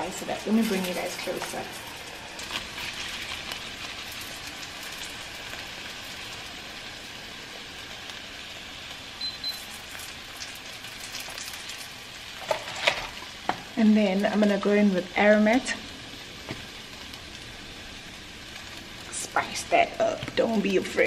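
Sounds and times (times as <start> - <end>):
chicken sizzling in a pan: 0.0 - 21.0.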